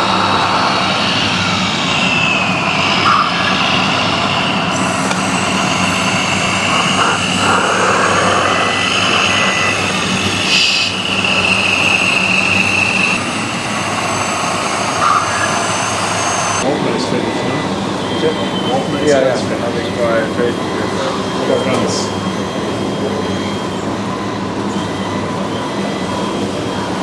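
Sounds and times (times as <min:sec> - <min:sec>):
steady low hum: 0:00.0 - 0:21.6
electric motors whining: 0:00.0 - 0:27.0.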